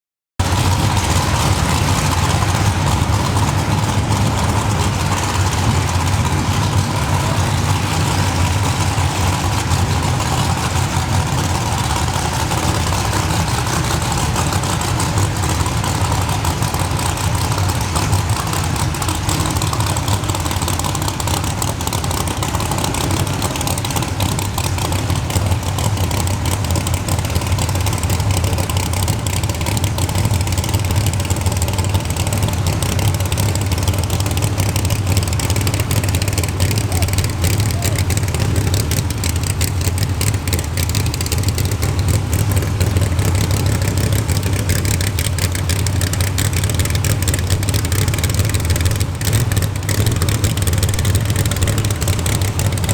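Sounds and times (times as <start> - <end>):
car engine idling with lopey beat: 0.4 - 52.9.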